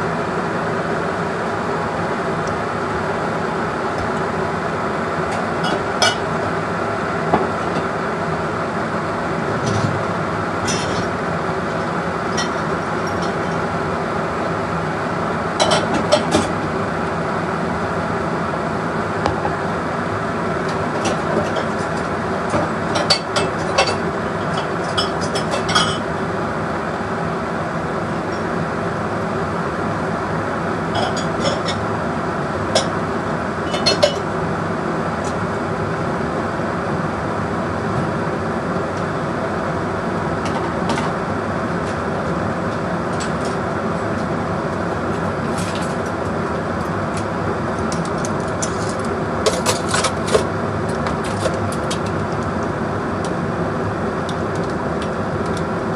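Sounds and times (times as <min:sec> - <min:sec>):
steady mechanical hum: 0:00.0 - 0:55.9.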